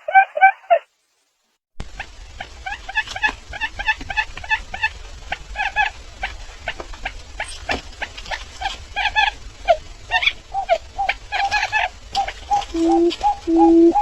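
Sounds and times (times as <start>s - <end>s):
bird chirping rapidly: 2.0s - 14.0s.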